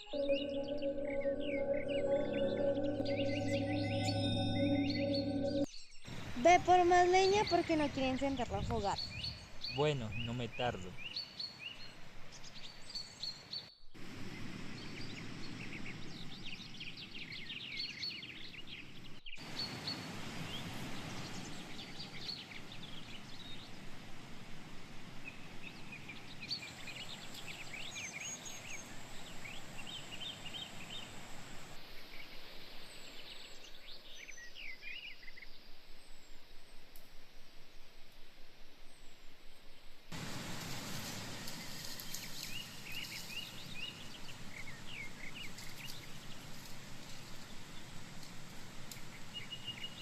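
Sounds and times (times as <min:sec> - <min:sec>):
small birds chirping: 0:00.0 - 0:23.9, 0:25.2 - 0:35.6, 0:40.1 - 0:50.0
outdoor background noise: 0:01.8 - 0:50.0.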